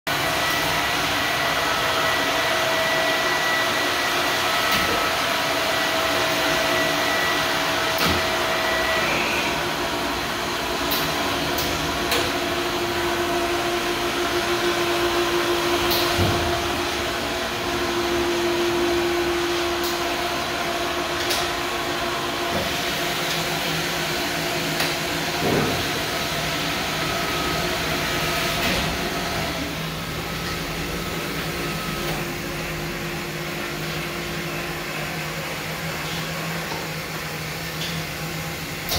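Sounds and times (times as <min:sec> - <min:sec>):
car wash motors and pumps: 0:00.1 - 0:38.9
steady machine hums: 0:00.1 - 0:38.9.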